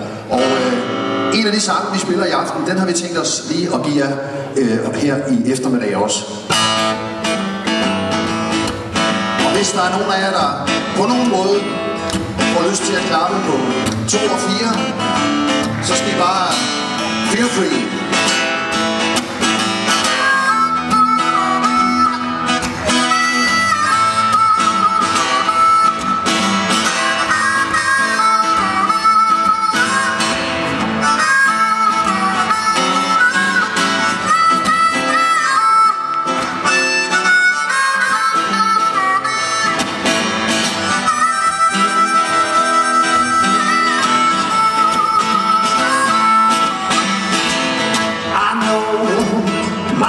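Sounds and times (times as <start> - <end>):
strummed acoustic guitar: 0.0 - 2.6, 6.4 - 50.0
harmonica melody: 0.0 - 4.9, 6.4 - 50.0.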